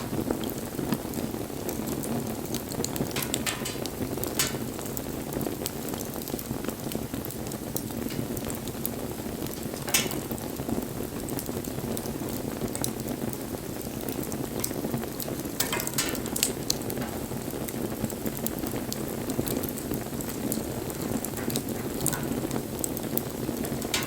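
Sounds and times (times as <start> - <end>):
fire crackles and pops: 0.0 - 24.0
rush of bonfire flames: 0.0 - 24.0.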